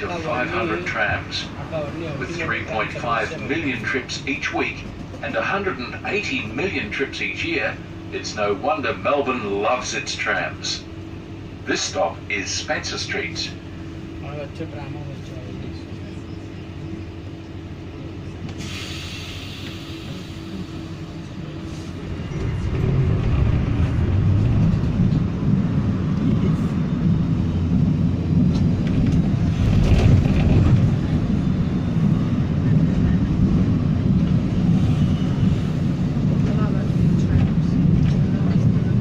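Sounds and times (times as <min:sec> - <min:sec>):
tram interior hum: 0:00.0 - 0:39.0
tram rumbling on rails: 0:00.0 - 0:39.0.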